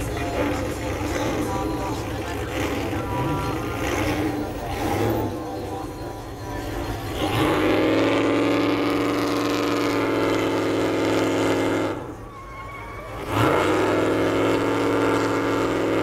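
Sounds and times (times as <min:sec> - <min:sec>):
engine revving: 0:00.0 - 0:12.3, 0:13.0 - 0:16.0
engine idling: 0:00.0 - 0:16.0.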